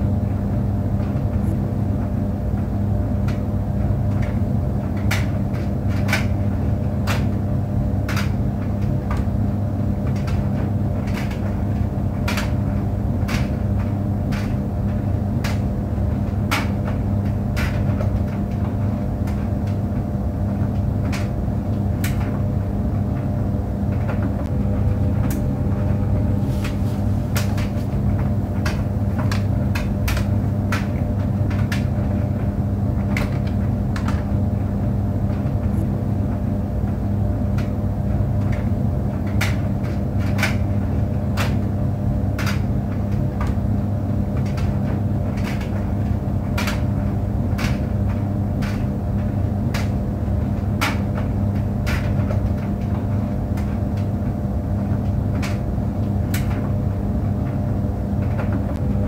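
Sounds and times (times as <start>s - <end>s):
tumble dryer hum and rumble: 0.0s - 59.0s.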